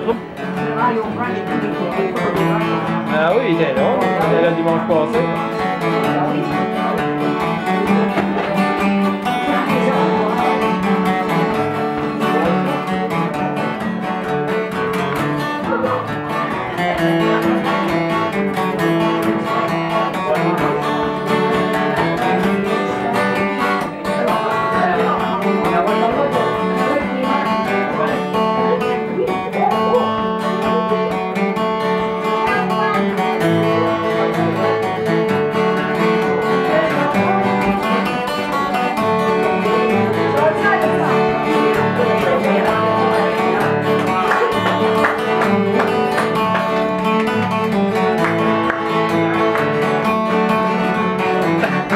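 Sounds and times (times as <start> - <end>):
acoustic guitars strumming chords: 0.0 - 51.9.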